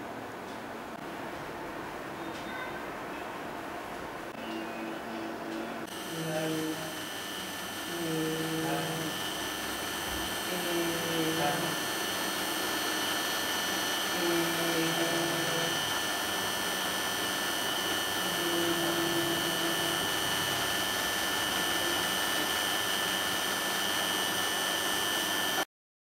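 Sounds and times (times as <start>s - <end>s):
fan-like hiss with high whine: 0.0s - 25.6s.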